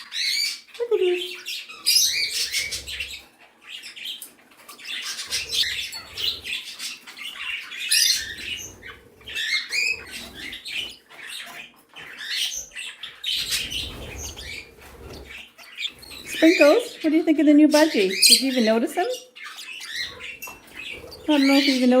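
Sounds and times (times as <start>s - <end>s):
flock of birds chirping: 0.0s - 22.0s.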